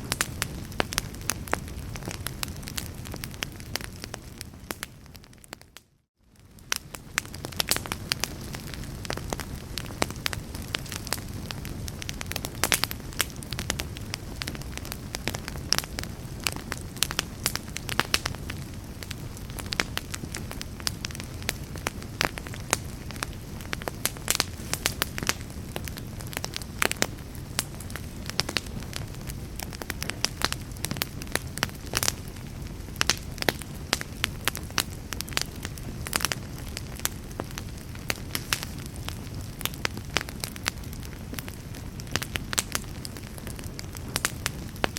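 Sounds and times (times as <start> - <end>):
logs crackling and popping: 0.0 - 44.9
low rumble of flame: 0.0 - 44.9.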